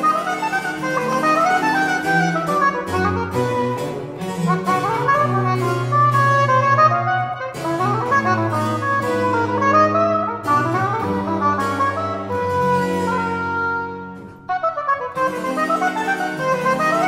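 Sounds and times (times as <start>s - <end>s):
cello: 0.0s - 17.0s
harpsichord: 0.0s - 17.0s
oboe playing quick phrases: 0.0s - 17.0s.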